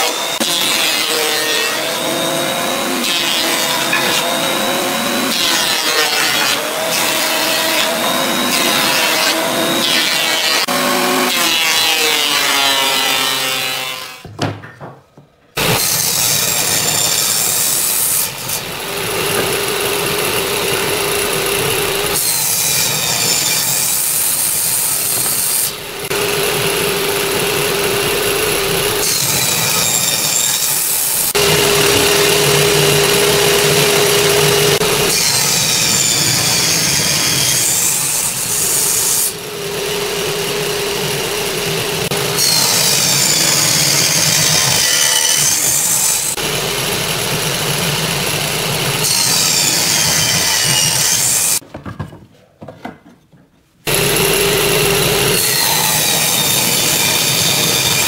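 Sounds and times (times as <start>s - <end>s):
thickness planer running: 0.0s - 11.6s, 15.6s - 51.6s, 53.9s - 58.0s
table saw cutting wood: 0.0s - 14.2s, 15.6s - 51.6s, 53.9s - 58.0s.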